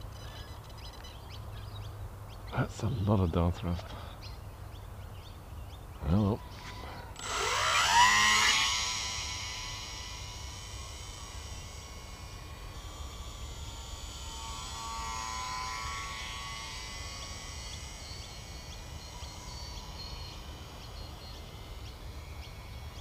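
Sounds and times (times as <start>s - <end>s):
electric motor and propeller droning: 0.0s - 23.0s.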